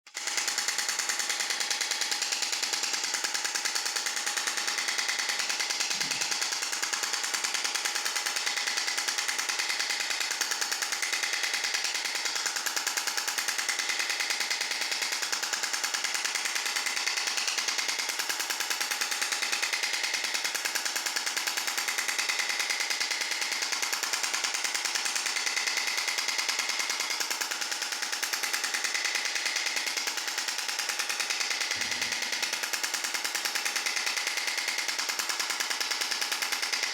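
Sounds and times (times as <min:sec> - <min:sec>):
shock wave device clicking pulses: 0:00.1 - 0:36.9.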